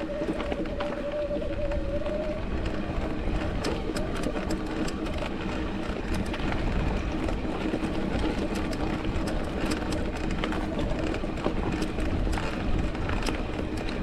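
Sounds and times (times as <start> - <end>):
bike tyre rumble: 0.0 - 14.0.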